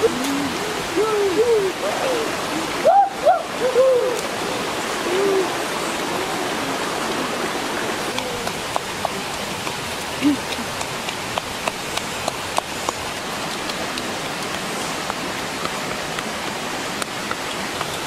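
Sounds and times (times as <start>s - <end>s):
shallow stream flowing over rocks: 0.0s - 18.0s.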